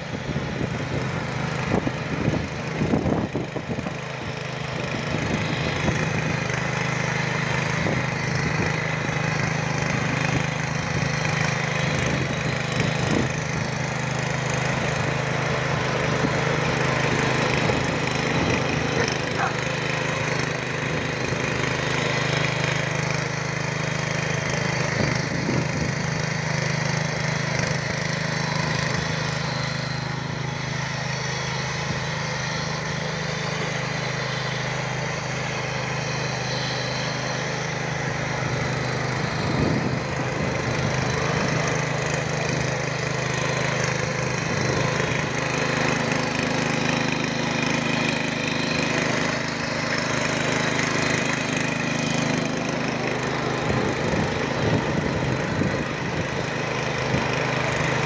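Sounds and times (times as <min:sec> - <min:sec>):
tiller engine running: 0:00.0 - 0:58.0
tines churning soil: 0:00.0 - 0:58.0.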